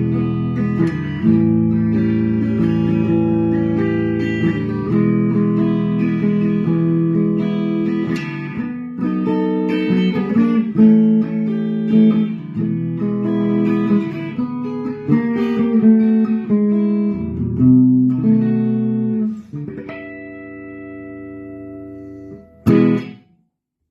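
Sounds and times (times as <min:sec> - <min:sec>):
electric guitar chords: 0:00.0 - 0:23.3.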